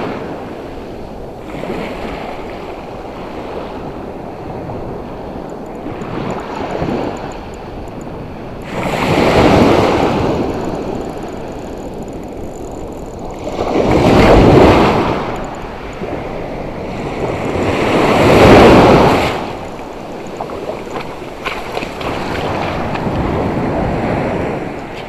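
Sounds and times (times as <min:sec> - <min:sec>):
waves crashing on beach: 0:00.0 - 0:25.0.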